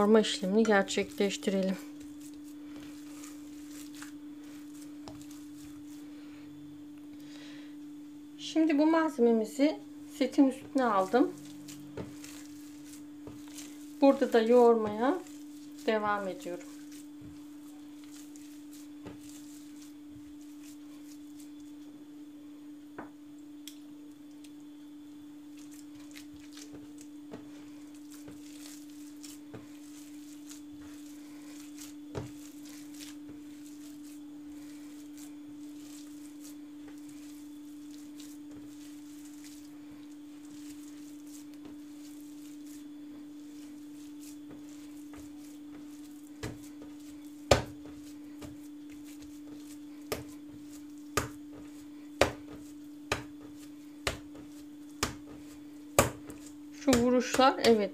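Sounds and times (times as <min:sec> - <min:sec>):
hands kneading meat squishing: 0:00.0 - 0:07.2, 0:08.5 - 0:22.3, 0:23.5 - 0:57.9
steady hum: 0:00.0 - 0:57.9.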